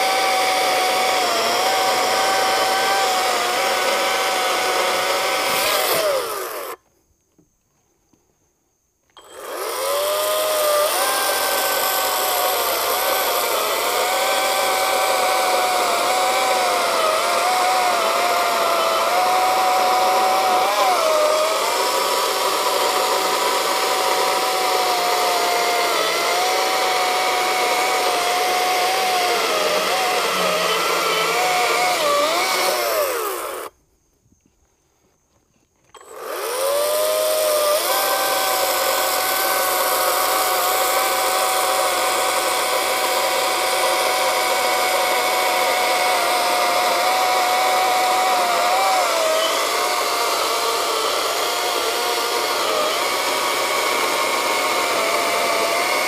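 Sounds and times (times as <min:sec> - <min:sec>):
chainsaw cutting wood: 0:00.0 - 0:06.8, 0:09.2 - 0:33.8, 0:35.9 - 0:56.0.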